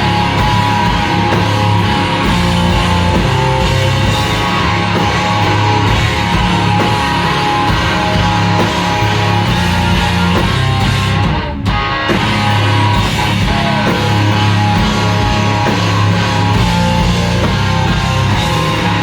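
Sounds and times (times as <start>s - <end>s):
drums: 0.0s - 19.0s
electric guitars: 0.0s - 19.0s.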